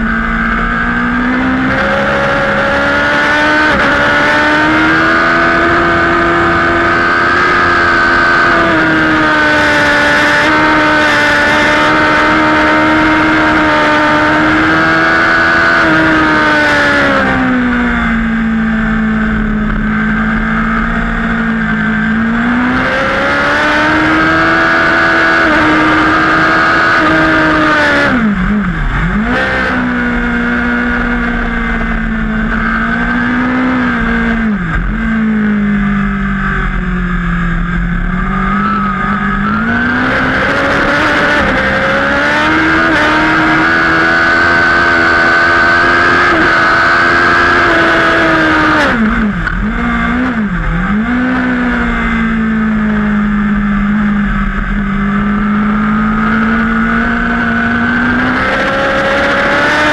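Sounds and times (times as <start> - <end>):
motorcycle engine at race pace: 0.0 - 59.9.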